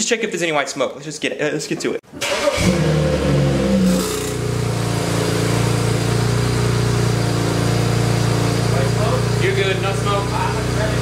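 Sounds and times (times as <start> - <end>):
car engine starting and idling: 2.1 - 11.0.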